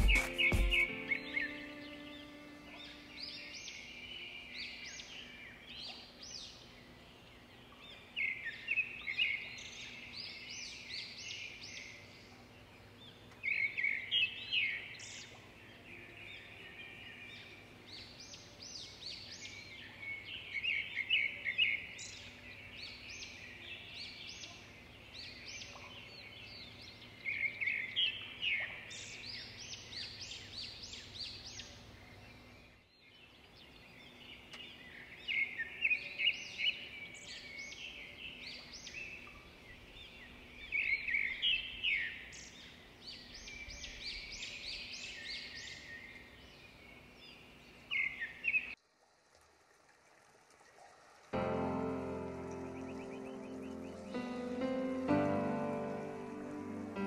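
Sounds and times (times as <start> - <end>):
birds chirping: 0.0 - 48.8, 50.8 - 57.0
faint outdoor background noise: 0.0 - 57.0.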